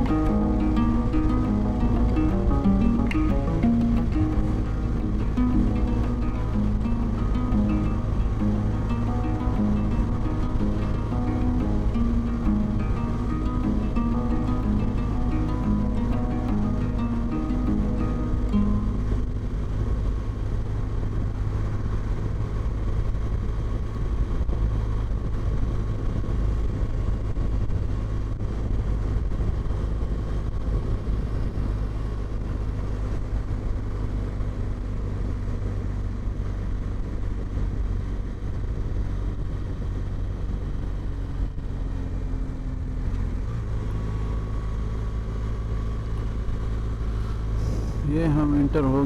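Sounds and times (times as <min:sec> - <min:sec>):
motorcycle engine rumble: 0:00.0 - 0:49.0.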